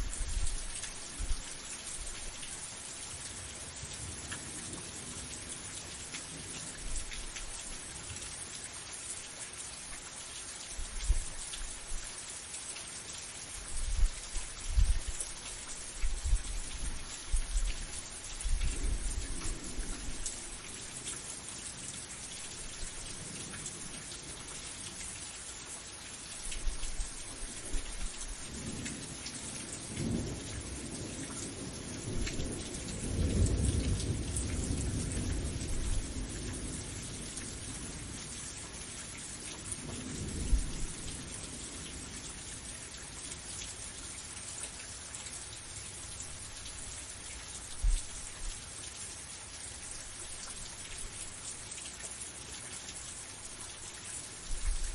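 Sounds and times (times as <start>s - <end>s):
rain hissing: 0.0s - 54.9s.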